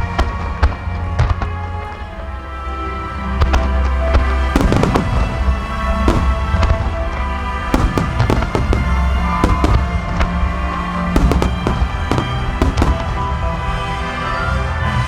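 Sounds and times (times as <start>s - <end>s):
fireworks bursting: 0.0s - 14.7s
music playing: 0.0s - 15.0s.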